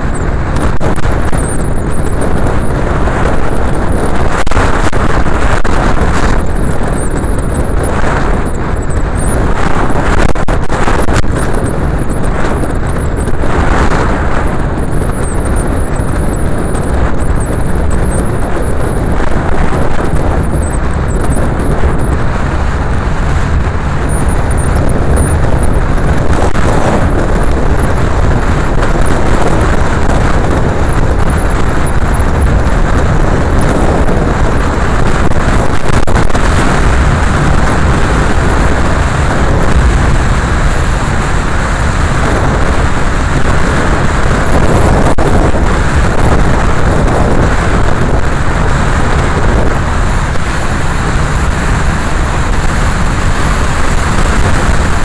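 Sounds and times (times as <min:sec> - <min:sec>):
car engine: 0:00.0 - 0:55.0
tyres on road: 0:00.0 - 0:55.0.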